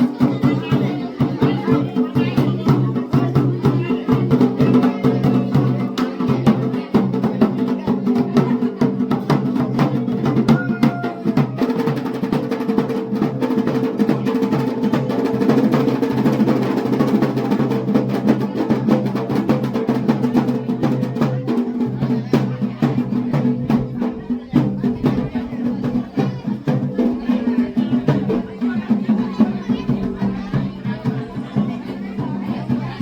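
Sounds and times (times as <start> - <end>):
rapid drumming: 0.0 - 33.0.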